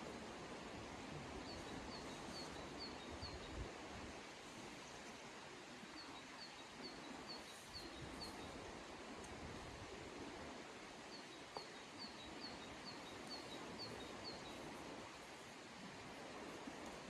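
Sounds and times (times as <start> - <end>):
outdoor hiss: 0.0 - 17.0.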